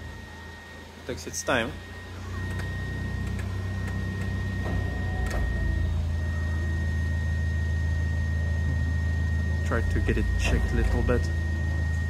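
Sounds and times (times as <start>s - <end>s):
sunroof motor humming: 0.0s - 12.0s.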